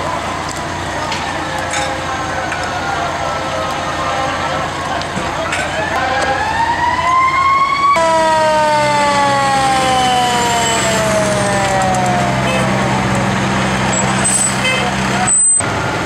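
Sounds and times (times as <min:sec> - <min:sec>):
fire truck siren wailing: 0:00.0 - 0:16.0
truck engine running low: 0:00.0 - 0:16.0.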